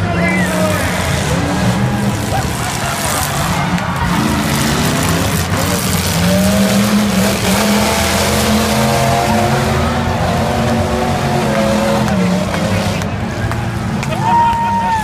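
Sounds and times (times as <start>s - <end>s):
racing boat engine at high revs: 0.0s - 14.2s.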